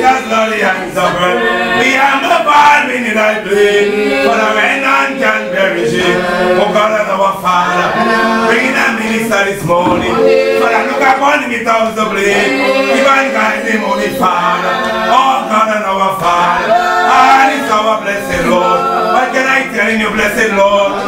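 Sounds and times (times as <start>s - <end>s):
congregation singing a hymn: 0.0s - 21.0s.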